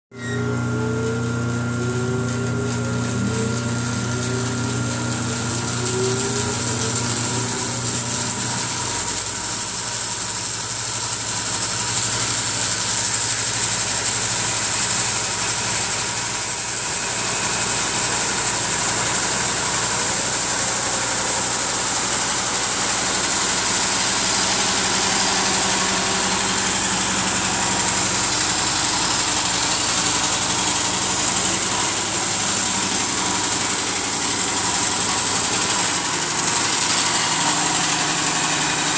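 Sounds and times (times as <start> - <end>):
bandsaw cutting wood: 0.1 - 38.9
high whine: 0.1 - 38.9
low motor hum: 0.1 - 38.9.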